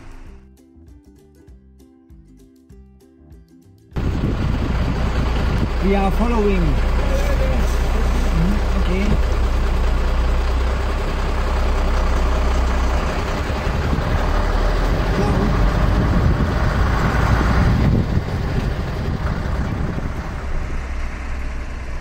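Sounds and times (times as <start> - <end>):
road and rattle noise: 0.0 - 0.4, 4.0 - 22.0
truck engine rumble: 0.0 - 0.4, 4.0 - 22.0.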